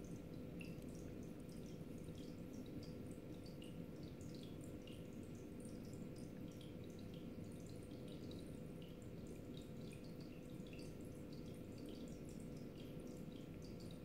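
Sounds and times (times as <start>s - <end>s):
water dripping and trickling: 0.0s - 14.0s.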